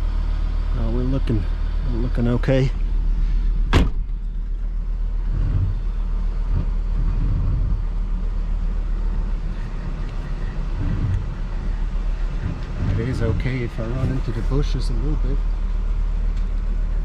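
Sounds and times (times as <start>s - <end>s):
pickup truck engine rumbling: 0.0s - 17.0s.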